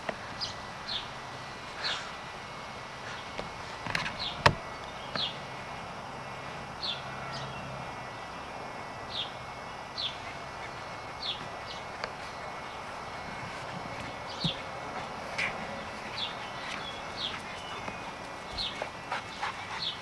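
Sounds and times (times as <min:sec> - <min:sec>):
tape hiss: 0:00.0 - 0:20.0.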